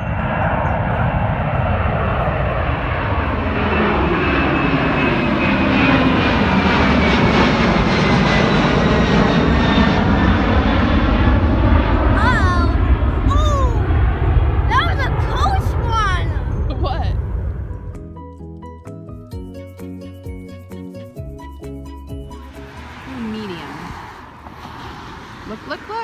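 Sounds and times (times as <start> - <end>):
jet airliner engine roar: 0.0 - 18.0, 22.3 - 26.0
high jet engine whine: 0.0 - 18.4, 19.6 - 26.0.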